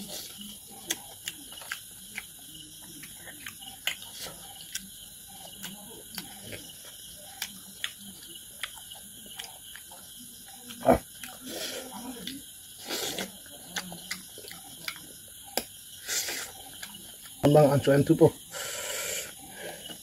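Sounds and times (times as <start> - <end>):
lip and tongue clicks: 0.0 - 11.5, 12.2 - 17.5
wet chewing and smacking: 0.0 - 17.6.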